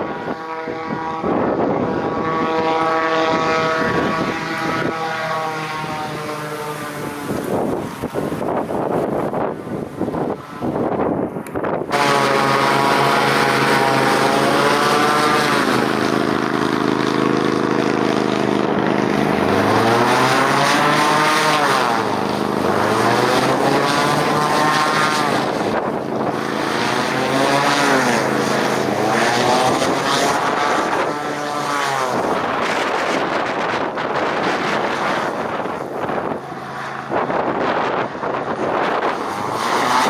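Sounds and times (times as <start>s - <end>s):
hovercraft engine drone: 0.0s - 40.0s
propeller tone sweeping: 0.0s - 40.0s.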